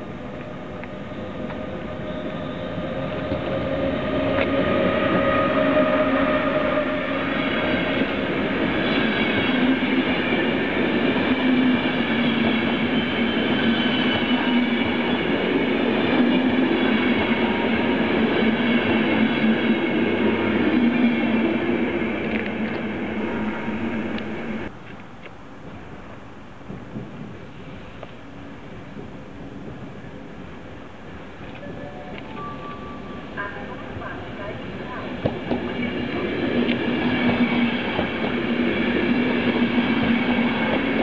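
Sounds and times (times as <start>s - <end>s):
electric train passing: 0.0s - 24.7s, 26.0s - 41.0s.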